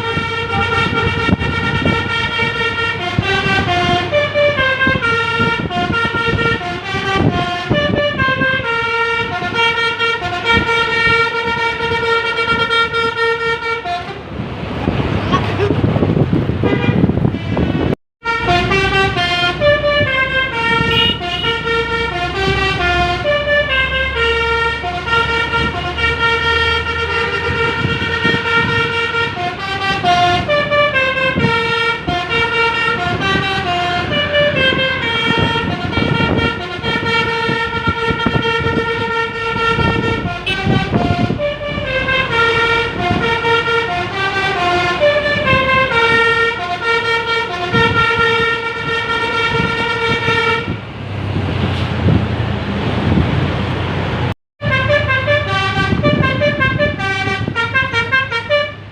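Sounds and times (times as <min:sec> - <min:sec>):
multi-note bus air horns: 0:00.0 - 0:14.4, 0:16.5 - 0:50.9, 0:54.6 - 0:58.9
engine rumble: 0:00.0 - 0:58.9.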